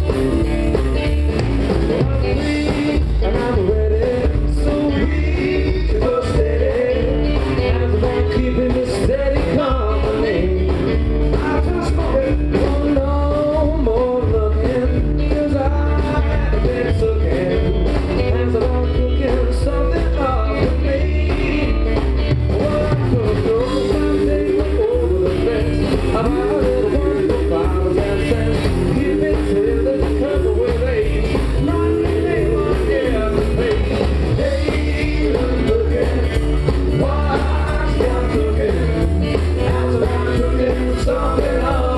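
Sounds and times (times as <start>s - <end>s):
drum kit beat: 0.0s - 41.9s
upright double bass: 0.0s - 41.9s
person singing: 1.8s - 41.9s.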